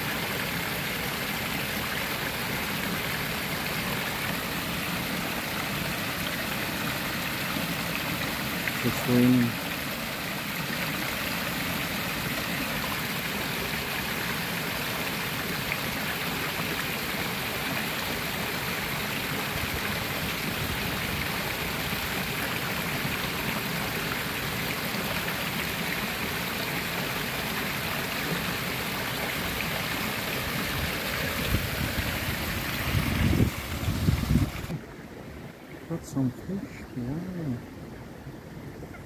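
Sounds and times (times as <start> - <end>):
waterfall splashing into pond: 0.0 - 37.6
rain falling on water: 0.0 - 39.0.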